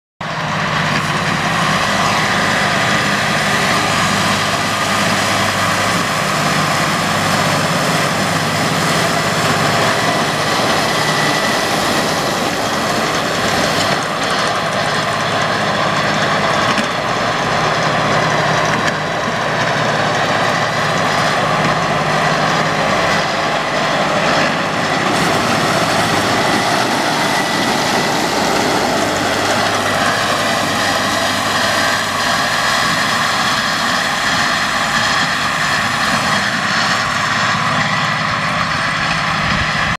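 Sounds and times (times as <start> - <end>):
mower cutter bar whirring: 0.2 - 39.9
tractor engine under load: 0.2 - 39.9.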